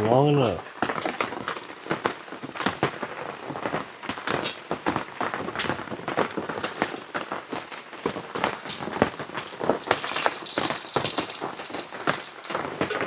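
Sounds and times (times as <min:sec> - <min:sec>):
rain dripping on an awning: 0:00.0 - 0:13.0.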